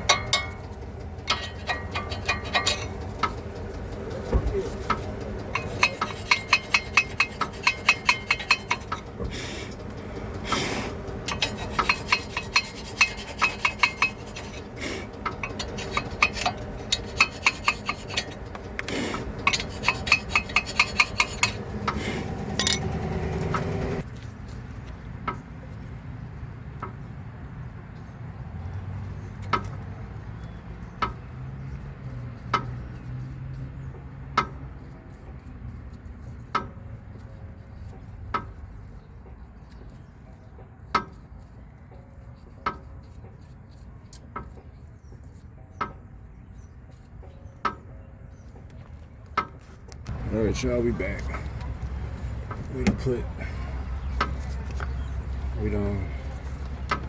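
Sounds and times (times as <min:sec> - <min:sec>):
metallic clicking and scraping: 0:00.0 - 0:26.0, 0:27.9 - 0:57.0.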